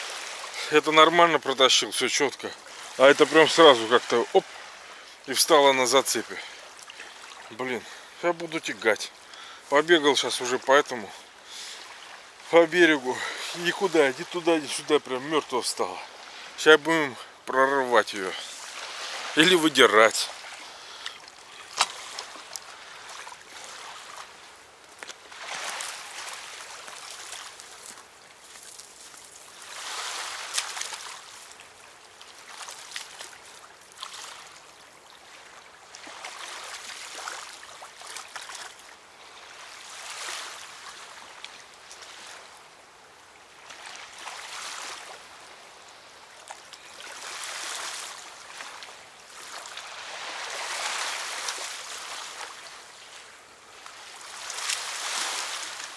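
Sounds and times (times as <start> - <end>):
river water lapping at bank: 0.0 - 55.9.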